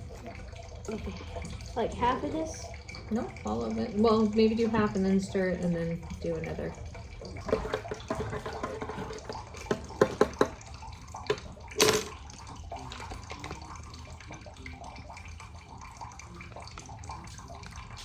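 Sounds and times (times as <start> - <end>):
water pouring into mug: 0.0 - 18.0.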